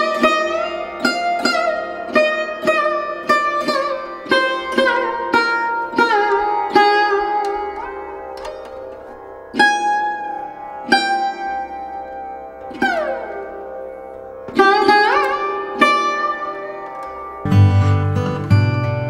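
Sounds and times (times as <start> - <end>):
plucked string instrument music: 0.0 - 19.0.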